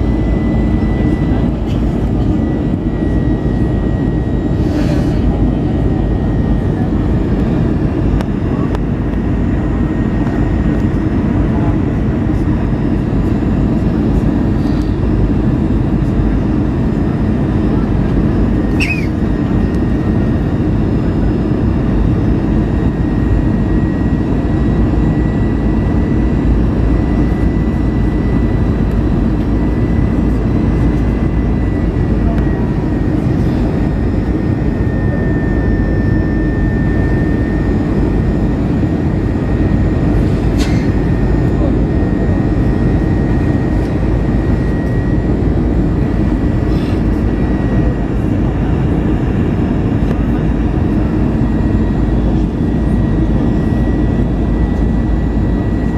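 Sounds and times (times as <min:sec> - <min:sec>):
high whine: 0:00.0 - 0:55.9
jet engine cabin roar: 0:00.0 - 0:55.9.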